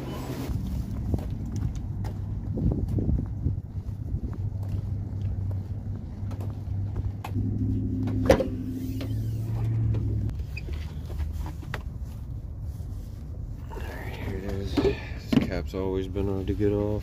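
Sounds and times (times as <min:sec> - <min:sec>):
vehicle engine running: 0:00.4 - 0:14.7.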